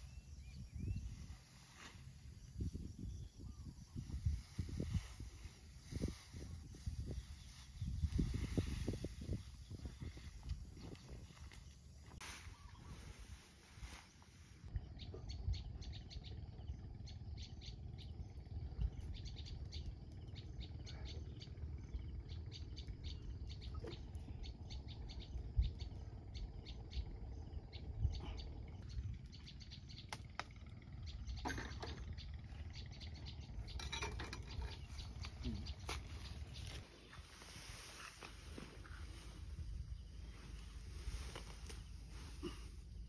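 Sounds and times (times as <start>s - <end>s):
birds chirping: 0.0s - 43.0s
steady low rumble: 0.0s - 43.0s.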